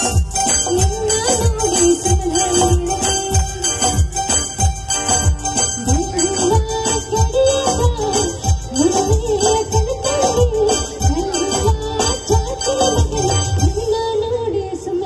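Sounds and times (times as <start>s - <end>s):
music with deep drum beat: 0.0s - 13.8s.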